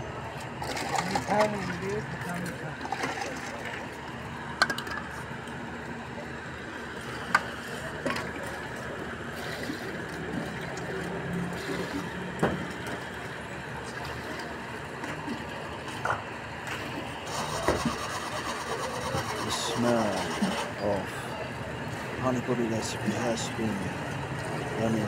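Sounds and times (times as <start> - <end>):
traffic hum: 0.0 - 25.0.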